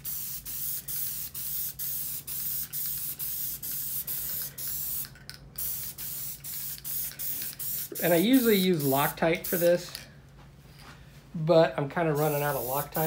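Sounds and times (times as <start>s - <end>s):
aerosol can spray hissing: 0.0s - 9.8s, 12.2s - 13.0s.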